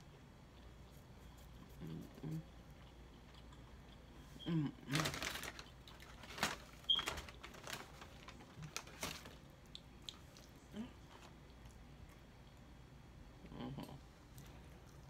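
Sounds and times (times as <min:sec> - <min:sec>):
chewing and crunching food: 0:00.0 - 0:12.8.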